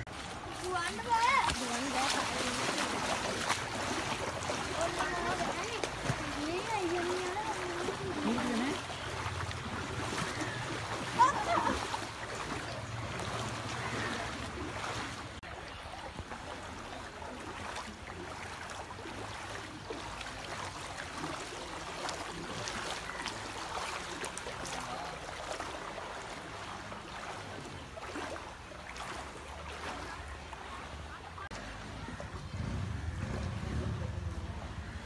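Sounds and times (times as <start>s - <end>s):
water sloshing around wading legs: 0.0s - 35.0s.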